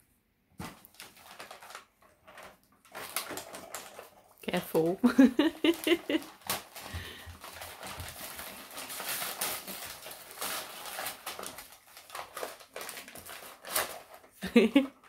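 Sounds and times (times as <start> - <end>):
wrapping paper crinkling and tearing: 0.6 - 4.9, 5.5 - 15.0.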